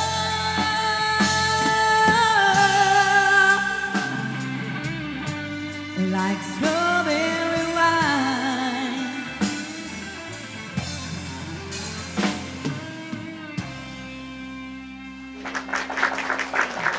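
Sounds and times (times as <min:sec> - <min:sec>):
country band playing: 0:00.0 - 0:16.5.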